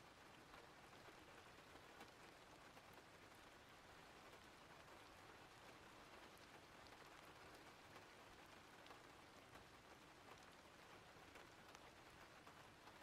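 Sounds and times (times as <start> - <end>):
faint rain hiss: 0.0 - 13.0
raindrop ticks: 0.0 - 13.0.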